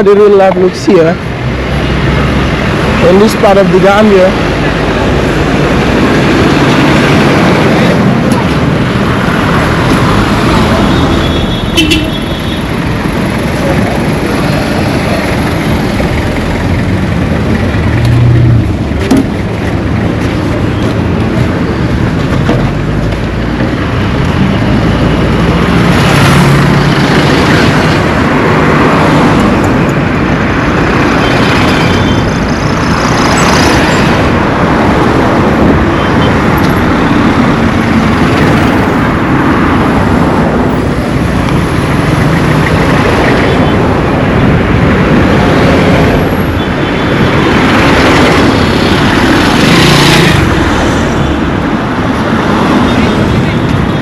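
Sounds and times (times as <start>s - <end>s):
steady traffic rumble: 0.0s - 54.0s
vehicles passing close by: 0.0s - 54.0s.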